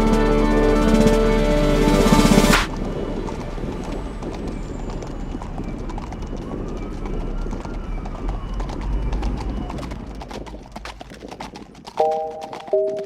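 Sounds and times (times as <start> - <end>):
steady low rumble: 0.0 - 11.1
horse hooves clip-clopping: 0.0 - 13.0.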